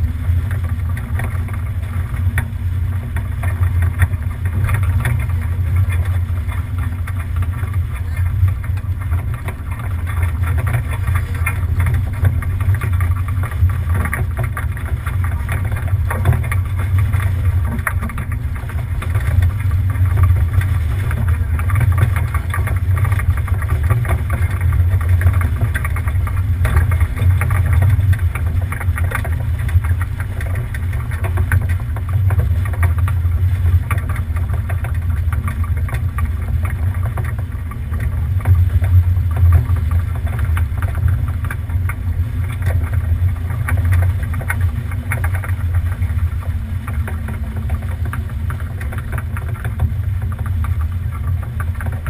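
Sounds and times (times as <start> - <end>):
sailboat low rumble: 0.0 - 52.0
water noise: 0.0 - 52.0
wind: 0.0 - 52.0.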